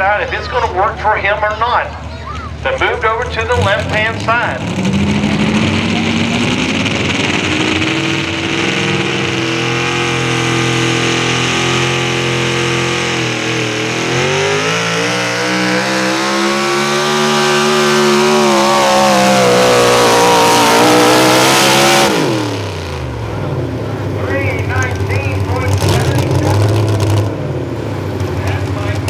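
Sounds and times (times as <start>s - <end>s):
truck engine revving at full throttle: 0.0s - 29.0s.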